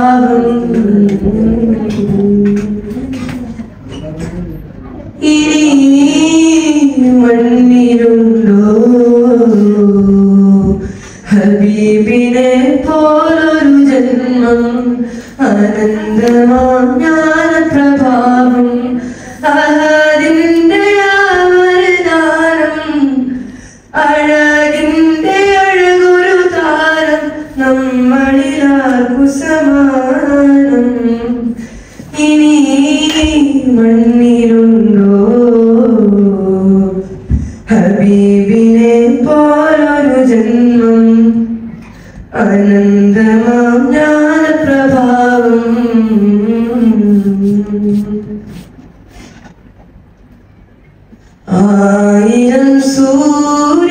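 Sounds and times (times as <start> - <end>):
boy singing unaccompanied: 0.0 - 3.5, 5.2 - 23.3, 24.0 - 37.1, 42.4 - 48.5, 51.5 - 53.9.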